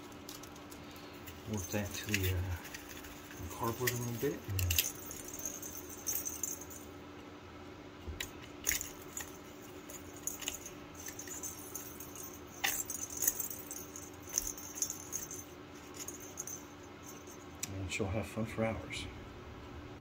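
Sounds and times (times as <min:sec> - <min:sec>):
bell ball jingling and rattling: 0:00.0 - 0:06.9, 0:08.2 - 0:17.6.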